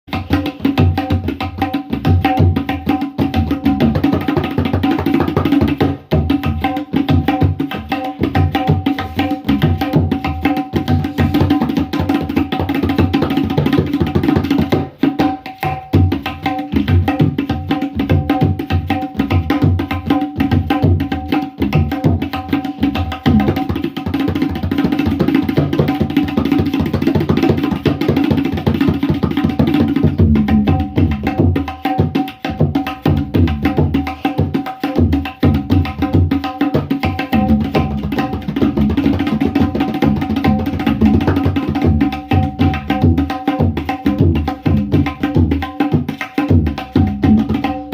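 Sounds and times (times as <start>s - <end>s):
tabla drumming: 0.1s - 47.9s.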